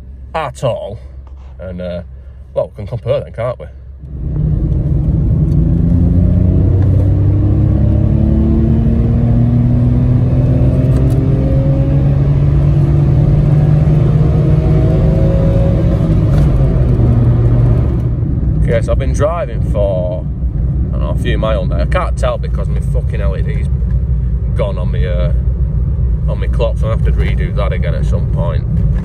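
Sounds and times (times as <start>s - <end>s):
car engine under load: 0.0s - 29.0s.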